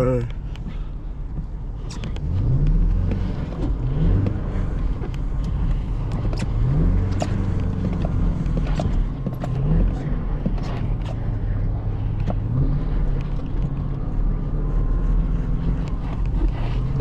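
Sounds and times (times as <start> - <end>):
car engine revving: 1.7 - 17.0.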